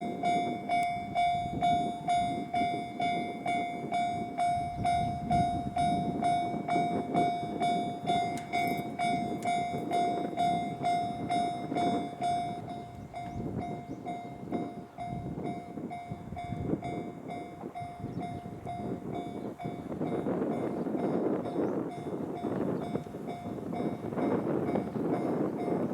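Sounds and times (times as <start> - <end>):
level crossing bell ringing: 0.0 - 25.9
train rumbling past: 0.0 - 25.9.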